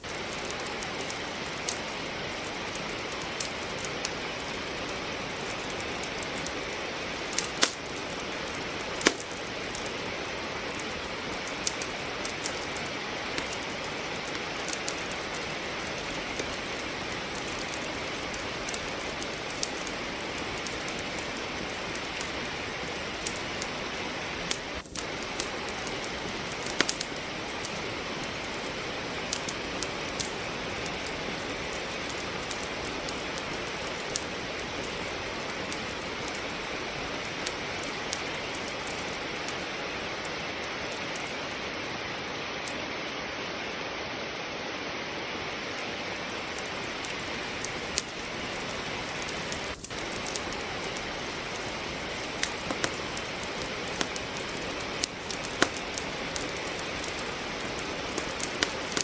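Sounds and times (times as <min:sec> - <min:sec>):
rain falling: 0:00.0 - 0:59.0
wood crackling in a fireplace: 0:00.0 - 0:59.0.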